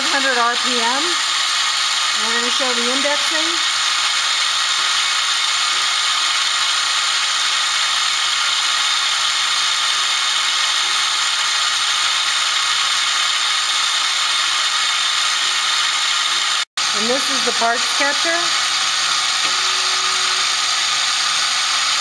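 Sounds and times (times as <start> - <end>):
lathe spindles whirring: 0.0 - 22.0.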